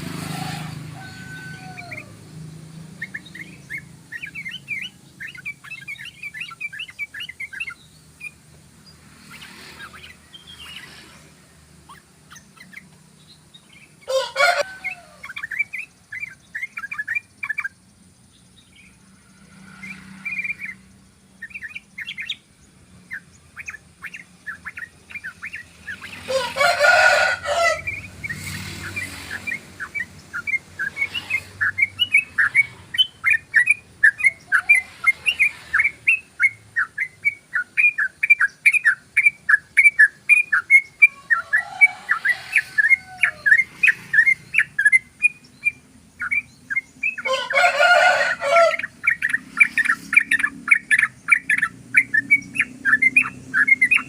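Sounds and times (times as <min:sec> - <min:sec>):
bird chirping song: 0:00.0 - 0:54.0
harsh rasping bird calls: 0:00.0 - 0:54.0.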